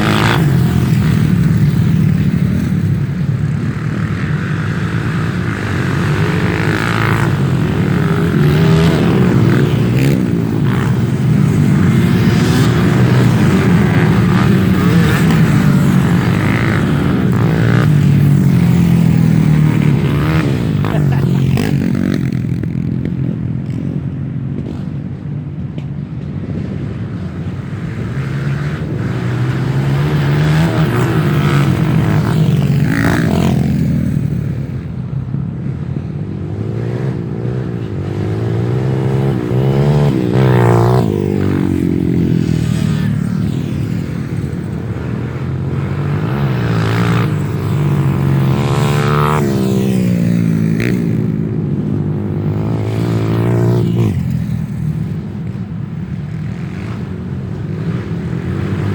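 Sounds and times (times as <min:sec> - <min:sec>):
trail motorcycles revving: 0:00.0 - 0:58.9.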